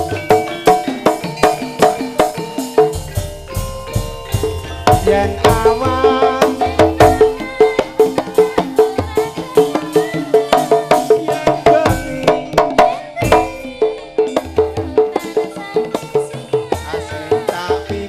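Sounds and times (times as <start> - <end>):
ringing metal-keyed notes: 0.0 - 17.4.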